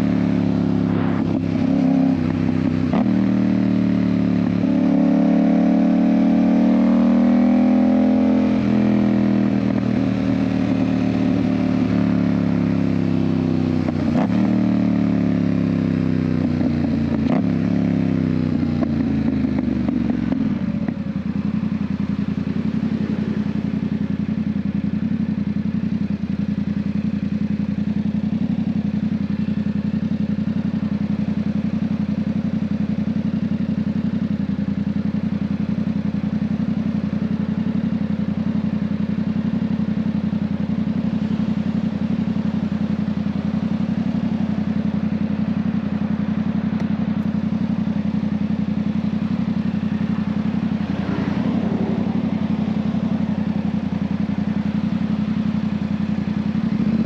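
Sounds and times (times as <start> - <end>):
motorcycle engine slowing to idle: 0.0 - 57.0.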